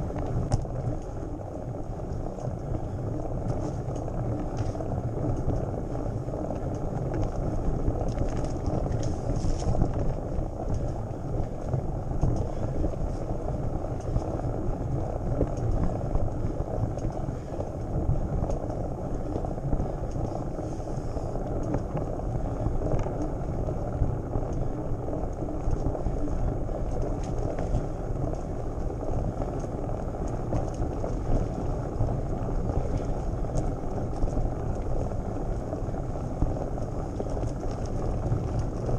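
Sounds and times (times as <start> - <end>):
bike tyres on dirt: 0.0 - 38.9
wind on microphone: 0.0 - 38.9.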